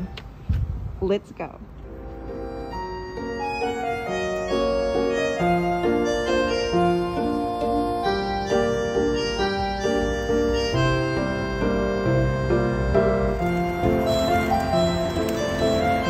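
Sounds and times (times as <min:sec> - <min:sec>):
low accompaniment: 0:01.4 - 0:16.0
keyboard melody of short notes: 0:01.8 - 0:16.0.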